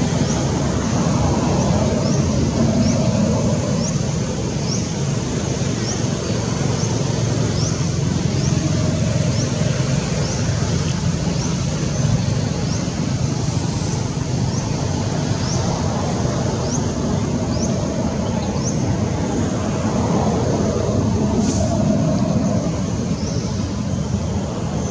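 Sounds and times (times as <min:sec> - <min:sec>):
high rising chirp: 0:00.0 - 0:24.9
outdoor background rumble: 0:00.0 - 0:24.9.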